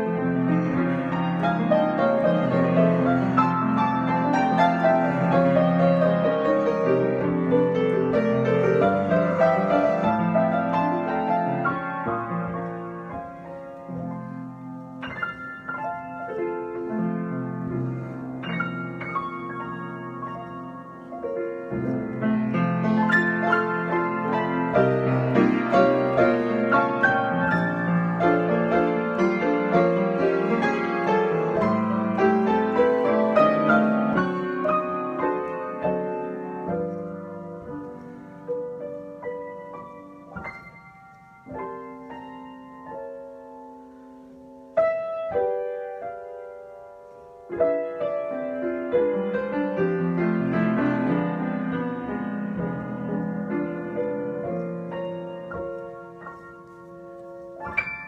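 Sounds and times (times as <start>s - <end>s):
loud piano chord: 0.0s - 58.0s
piano improvisation: 0.0s - 58.0s.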